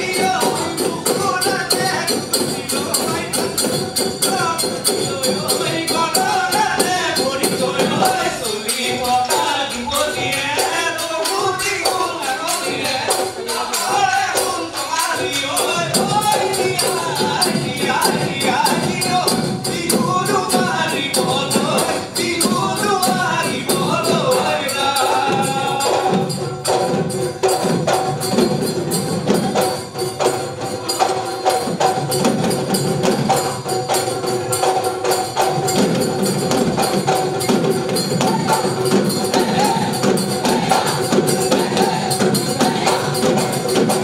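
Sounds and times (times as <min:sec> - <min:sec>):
clinking hand cymbals: 0:00.0 - 0:44.0
dhol drums fast rhythm: 0:00.0 - 0:44.0.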